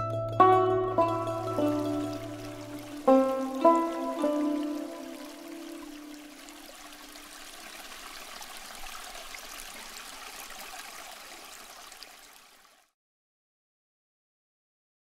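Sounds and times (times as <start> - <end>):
creek water trickling: 0.4 - 13.0.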